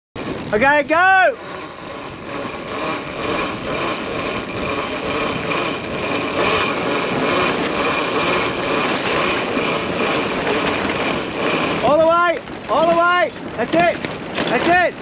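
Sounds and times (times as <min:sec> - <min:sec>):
wind rushing: 0:00.2 - 0:15.0.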